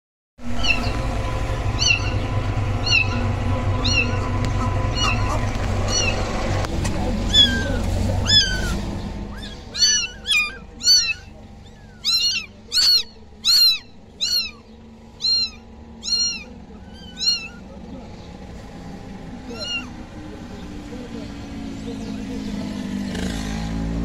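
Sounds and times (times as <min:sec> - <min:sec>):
kittens mewing: 0:00.5 - 0:22.6.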